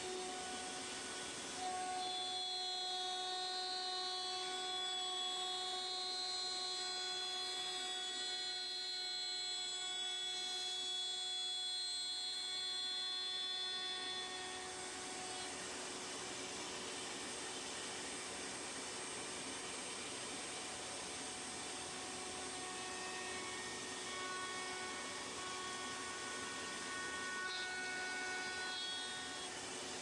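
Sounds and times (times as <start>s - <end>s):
router motor whine: 0.0s - 30.0s.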